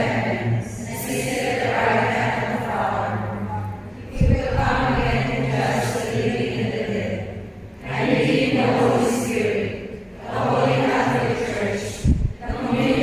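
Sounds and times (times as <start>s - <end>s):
congregation reciting prayers: 0.0s - 13.0s.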